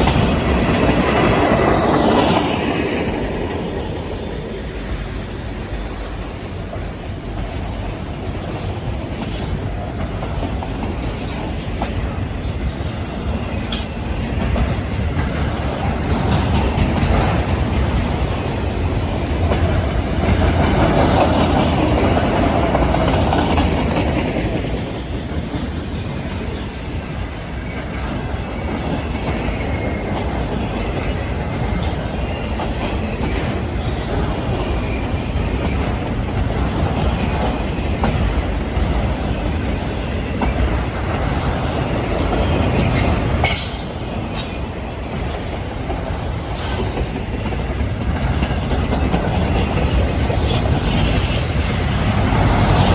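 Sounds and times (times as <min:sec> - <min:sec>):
train wheels rumbling on rails: 0:00.0 - 0:52.9
wheels clicking over rail joints: 0:06.7 - 0:52.9.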